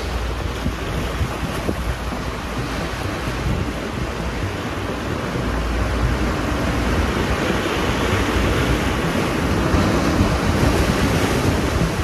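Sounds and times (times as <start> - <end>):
waves breaking over rocks: 0.0 - 12.0
wind rumbling on microphone: 0.0 - 12.0.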